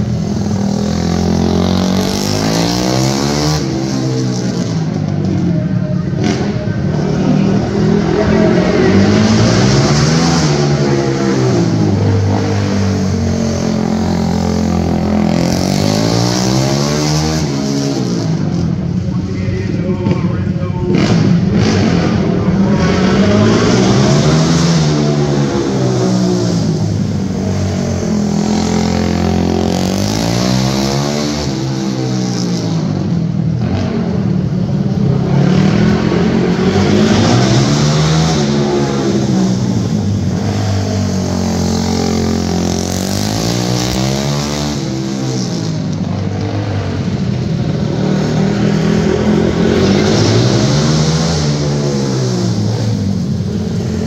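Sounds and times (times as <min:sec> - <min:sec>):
race motorcycles revving: 0:00.0 - 0:54.0.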